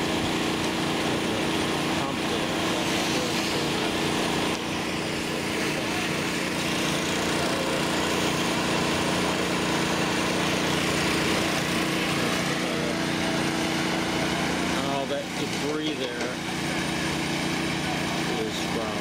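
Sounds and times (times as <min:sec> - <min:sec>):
water pump engine running: 0:00.0 - 0:19.0.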